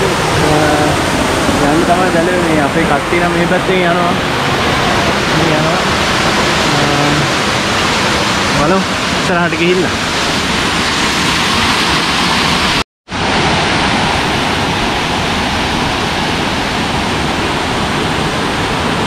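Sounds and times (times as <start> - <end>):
waterfall roar: 0.0 - 19.0.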